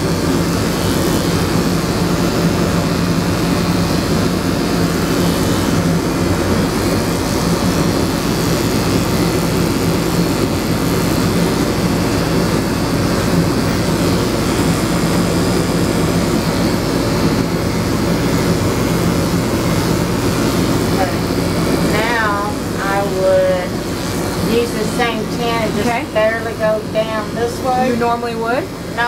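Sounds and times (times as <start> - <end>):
electric clippers buzzing: 0.0 - 29.0.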